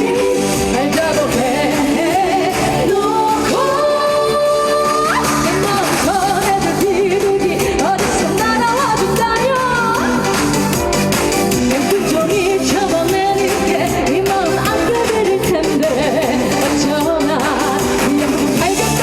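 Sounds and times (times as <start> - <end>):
person singing with vibrato: 0.0 - 11.0, 11.6 - 19.0
band backing track: 0.0 - 19.0.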